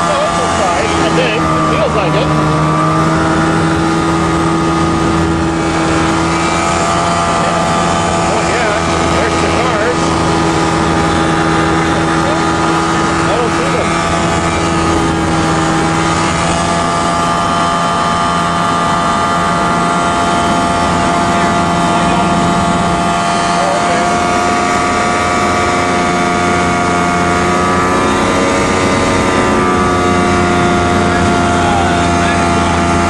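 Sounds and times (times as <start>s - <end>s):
airplane engine droning: 0.0s - 33.0s.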